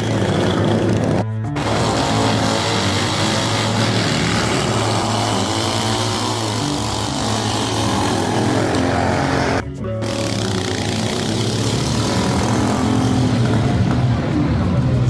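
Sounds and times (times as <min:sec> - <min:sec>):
racing lawnmower engines: 0:00.0 - 0:15.0.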